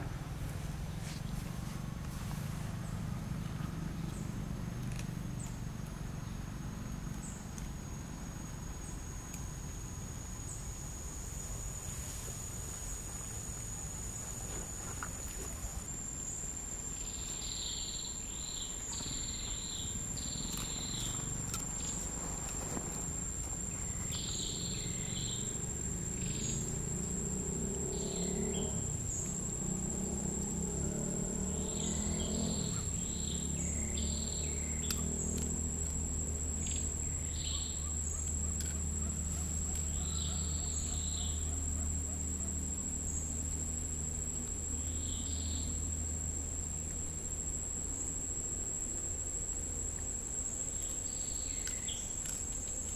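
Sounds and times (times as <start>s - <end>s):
insect high-pitched whine: 0.0s - 52.9s
short insect calls: 0.0s - 52.9s.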